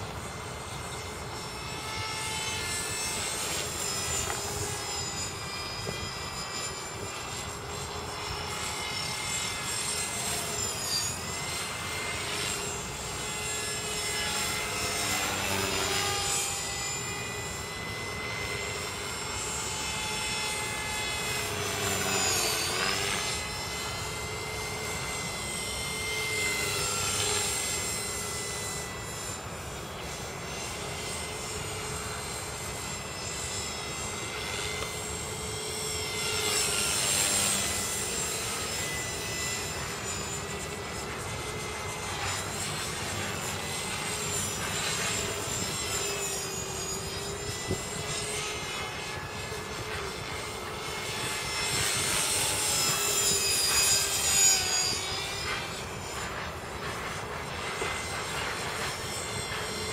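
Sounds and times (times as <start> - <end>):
rc helicopter rotor whine: 0.0 - 59.9.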